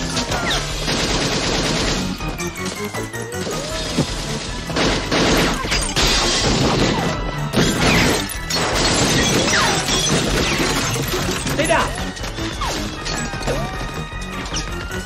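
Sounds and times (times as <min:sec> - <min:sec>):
crashing and smashing: 0:00.0 - 0:14.1
dramatic action film music: 0:00.0 - 0:15.0.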